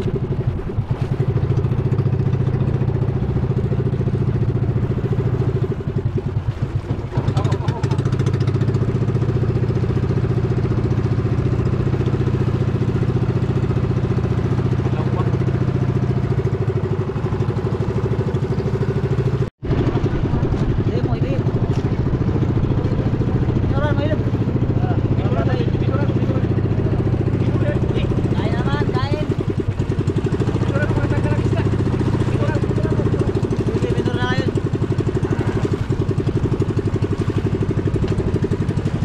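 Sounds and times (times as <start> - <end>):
small boat engine running: 0.0 - 39.0.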